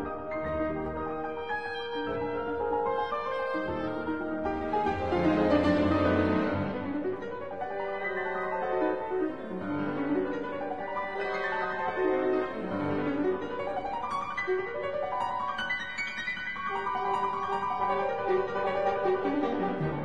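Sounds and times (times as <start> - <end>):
piano background music: 0.0 - 20.0.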